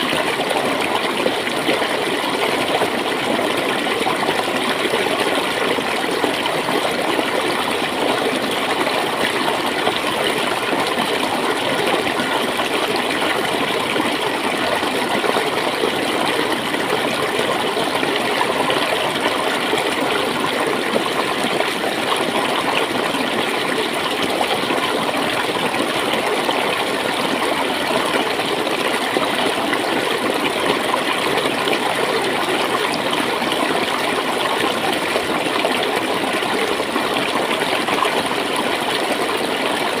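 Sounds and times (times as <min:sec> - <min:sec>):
stream water gurgling: 0:00.0 - 0:40.0.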